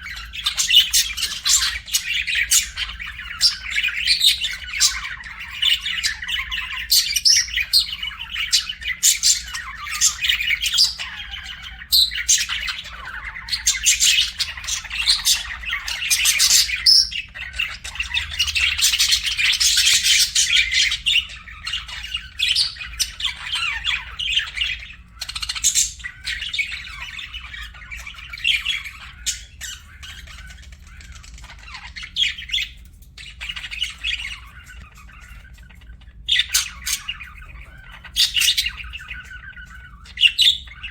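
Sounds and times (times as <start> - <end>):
budgerigars chirping: 0.0 - 40.9
faint low hum: 0.0 - 40.9.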